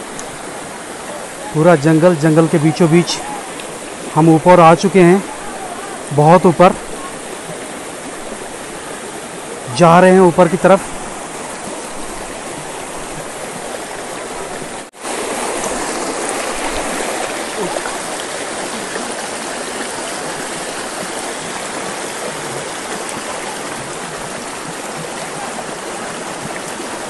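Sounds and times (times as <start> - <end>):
stream rushing over boulders: 0.0 - 27.0.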